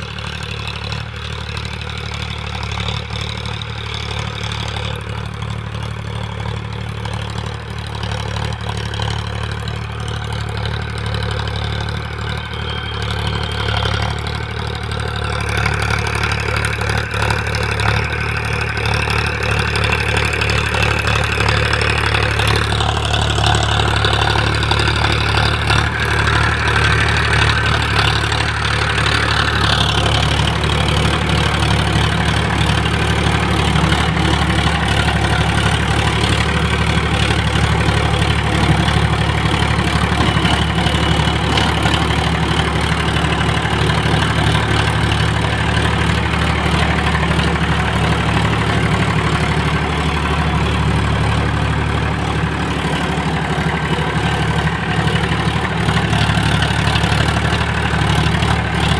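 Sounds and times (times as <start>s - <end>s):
tractor diesel engine running: 0.0s - 58.9s
rotavator tilling soil: 10.2s - 58.9s.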